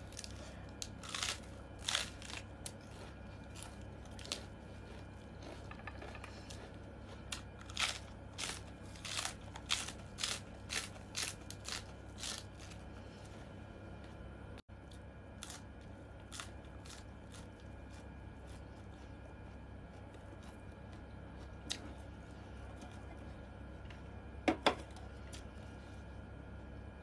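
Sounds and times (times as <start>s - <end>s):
crunchy lettuce being chewed: 0.0s - 24.3s.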